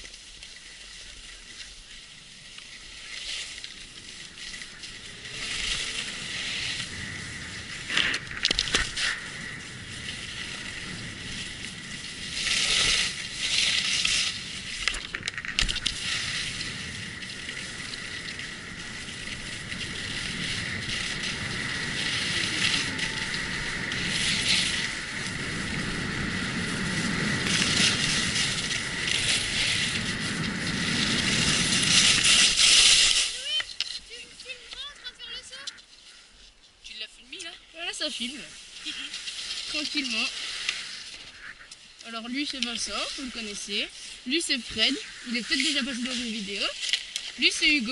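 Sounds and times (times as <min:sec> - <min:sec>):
skis scraping over snow: 0:00.0 - 0:47.9.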